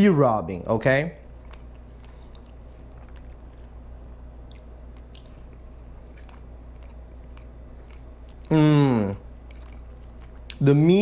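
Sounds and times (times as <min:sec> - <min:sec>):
steady low hum: 0:00.0 - 0:11.0
person chewing food: 0:01.2 - 0:10.7.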